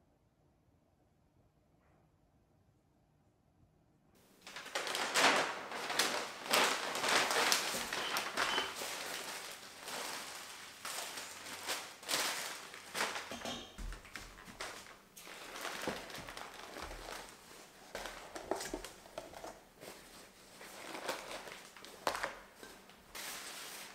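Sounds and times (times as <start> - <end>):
packing paper crinkling: 4.4 - 23.9.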